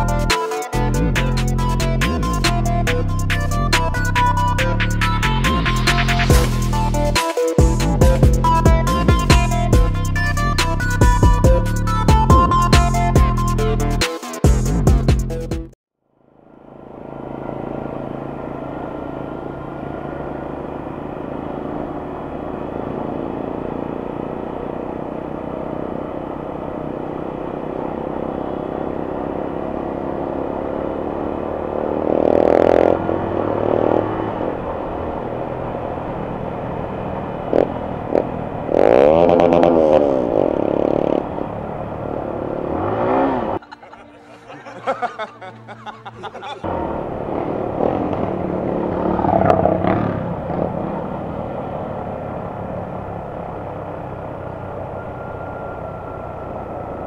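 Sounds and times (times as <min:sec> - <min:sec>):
motorcycle engine running: 0:00.0 - 0:15.5, 0:16.2 - 0:43.6, 0:46.6 - 0:57.0.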